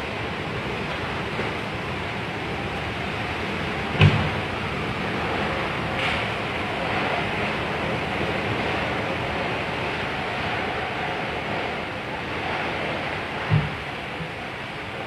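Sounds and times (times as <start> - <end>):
heavy rain in strong wind: 0.0 - 15.0.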